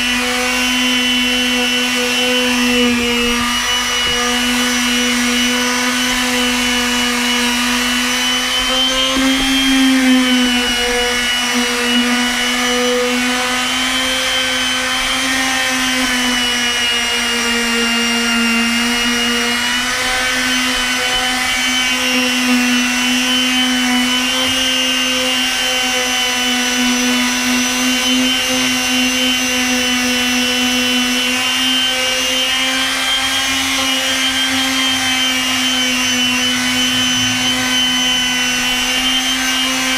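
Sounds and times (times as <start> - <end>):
orbital sander running: 0.0 - 39.9.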